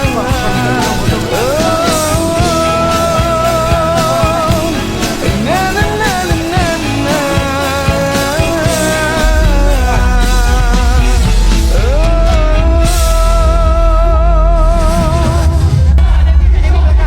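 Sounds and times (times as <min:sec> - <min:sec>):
live band playing: 0:00.0 - 0:17.0
person singing long notes: 0:00.0 - 0:17.0.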